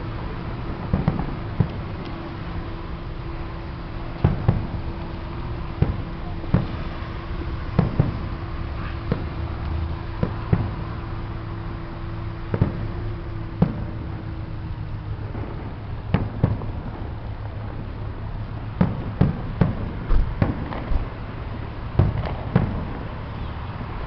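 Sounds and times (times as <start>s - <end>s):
fireworks bangs and pops: 0.0s - 24.0s
low background rumble: 0.0s - 24.0s.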